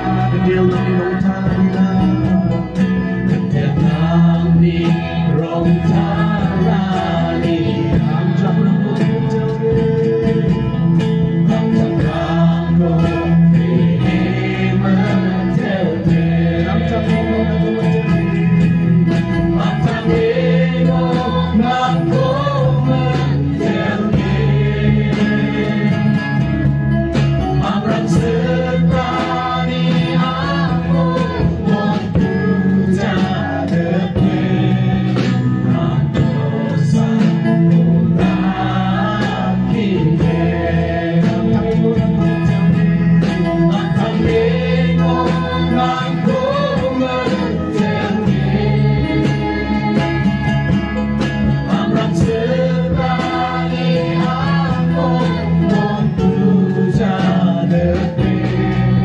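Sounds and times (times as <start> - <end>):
acoustic guitar and band: 0.0 - 59.0
group singing into microphones: 0.0 - 59.0.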